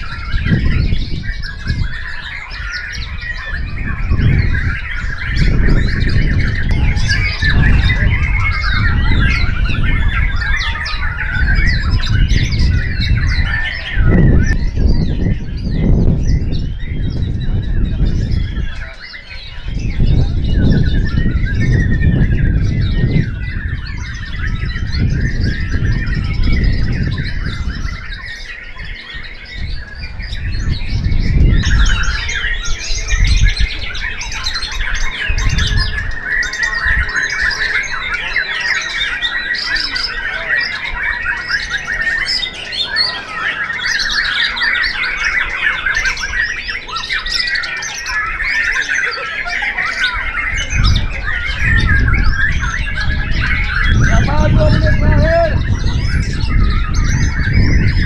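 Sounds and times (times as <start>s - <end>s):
other songbirds singing: 0.0s - 58.0s
songbird whistling and chattering: 0.0s - 58.0s.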